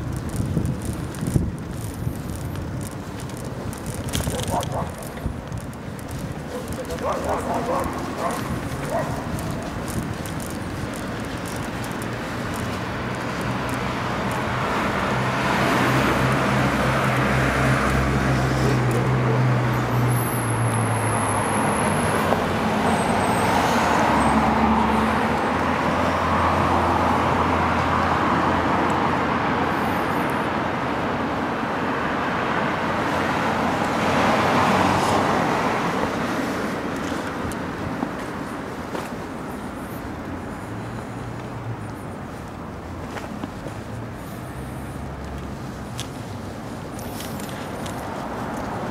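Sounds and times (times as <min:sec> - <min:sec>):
cars driving past: 0:00.0 - 0:48.9.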